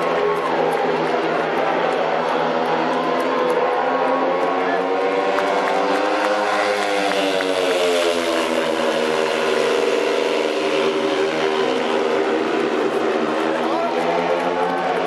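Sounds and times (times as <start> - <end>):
motorcycles racing: 0.0 - 15.0.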